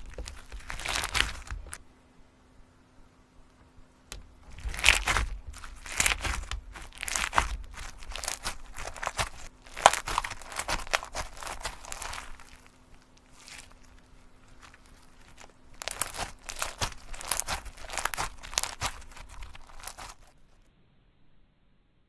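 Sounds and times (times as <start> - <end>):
crinkling and rustling: 0.0 - 1.8, 3.5 - 20.6.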